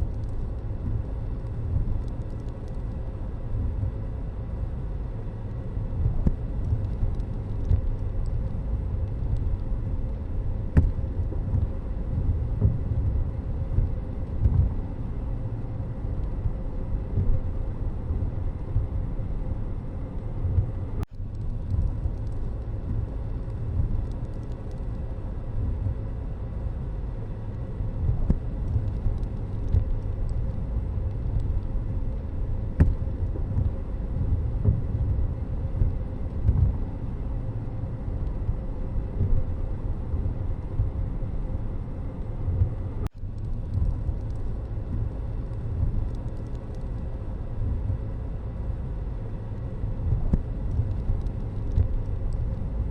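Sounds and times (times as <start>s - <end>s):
vehicle road and engine rumble: 0.0s - 52.9s.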